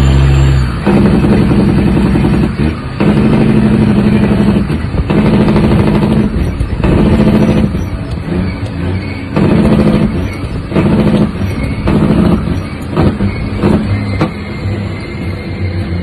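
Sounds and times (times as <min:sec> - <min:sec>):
truck diesel engine pulling hard: 0:00.0 - 0:16.0.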